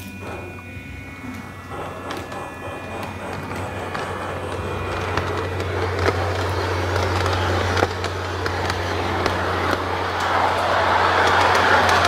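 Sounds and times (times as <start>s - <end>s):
electric motor hum: 0.0s - 12.0s
wheels clicking over rail joints: 0.0s - 12.0s.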